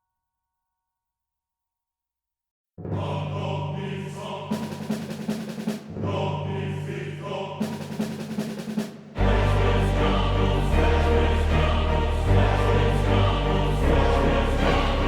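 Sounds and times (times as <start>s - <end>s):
dramatic orchestral music with choir: 2.9s - 15.0s.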